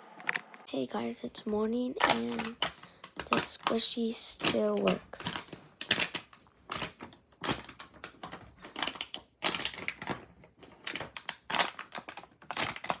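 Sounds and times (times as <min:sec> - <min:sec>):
plastic bottle crinkling: 0:01.8 - 0:13.0.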